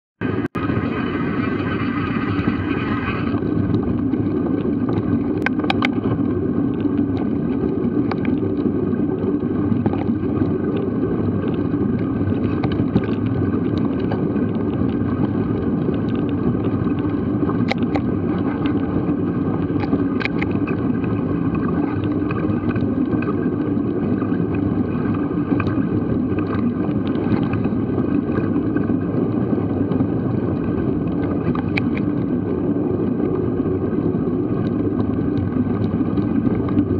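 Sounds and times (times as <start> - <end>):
wind buffeting microphone: 0.2 - 36.9.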